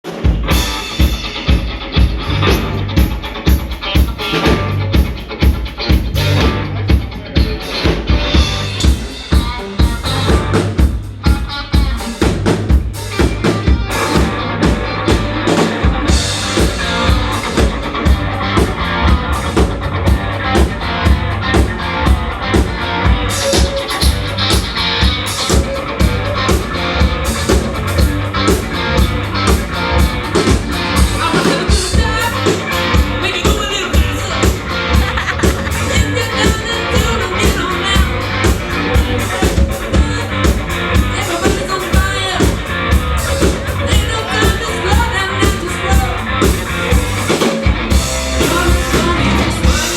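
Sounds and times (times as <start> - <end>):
band playing live: 0.0 - 49.9
bass: 0.0 - 49.9
drum kit steady beat: 0.0 - 49.9.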